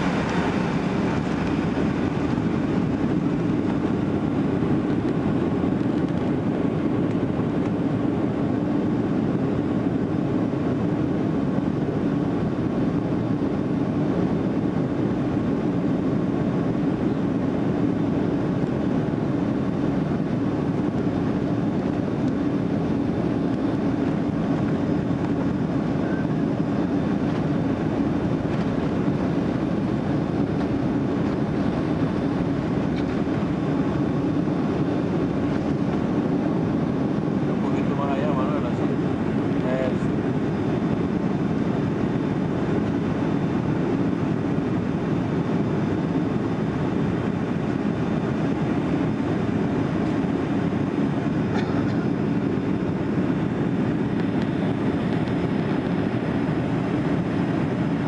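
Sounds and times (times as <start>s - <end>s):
jet engines droning: 0.0s - 58.0s.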